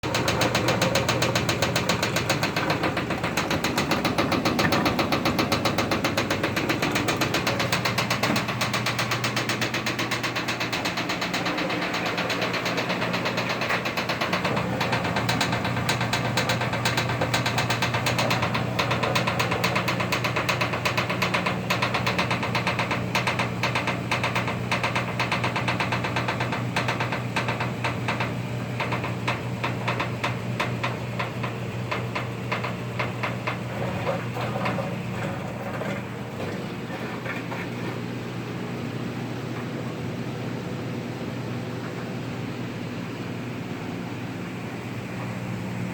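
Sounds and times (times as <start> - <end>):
rapid even knocking: 0.0 - 38.0
washing machine humming: 0.0 - 45.9.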